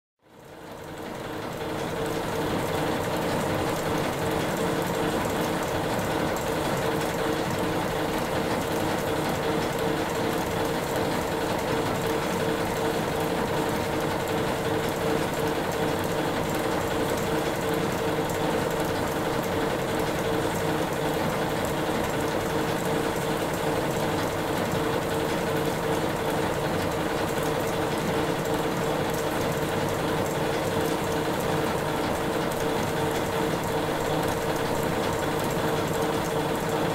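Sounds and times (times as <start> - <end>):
steam engine mechanical clatter: 0.9 - 36.9.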